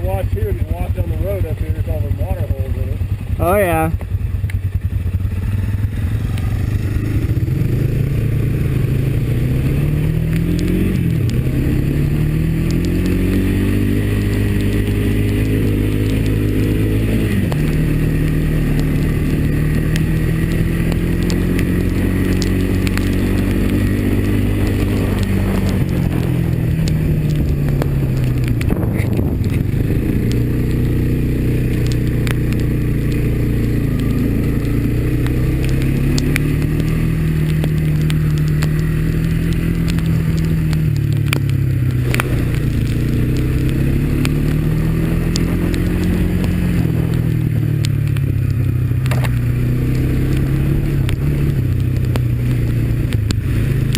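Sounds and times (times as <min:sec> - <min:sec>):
atv engine revving: 0:00.0 - 0:53.9.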